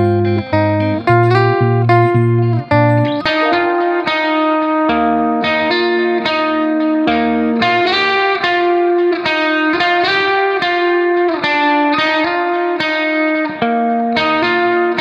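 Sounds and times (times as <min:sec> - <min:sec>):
plucked-string instrumental music: 0:00.0 - 0:15.0.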